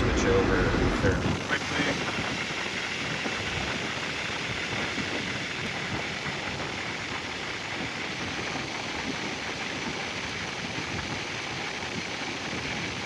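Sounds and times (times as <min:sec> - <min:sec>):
blower fan blowing air: 0:00.0 - 0:13.0.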